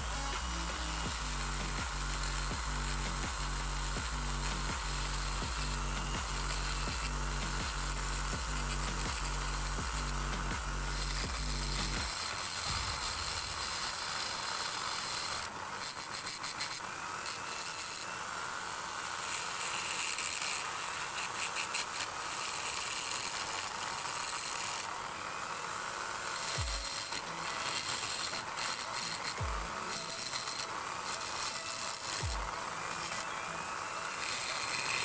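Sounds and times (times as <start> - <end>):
rotary grinder grinding metal: 0.0 - 35.0.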